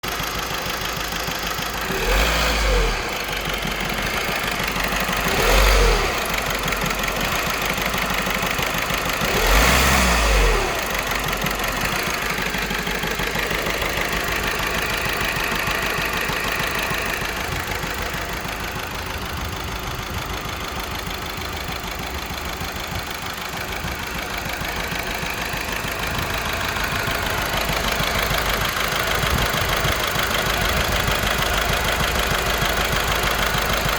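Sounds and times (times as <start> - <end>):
diesel engine idling with misfire: 0.0 - 33.9
engine revving: 1.5 - 33.9.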